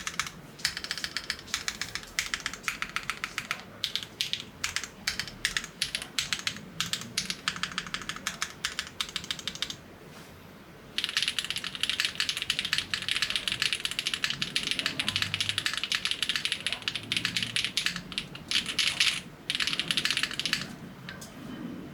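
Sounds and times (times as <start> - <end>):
mechanical keyboard typing: 0.0 - 9.8, 11.0 - 21.3.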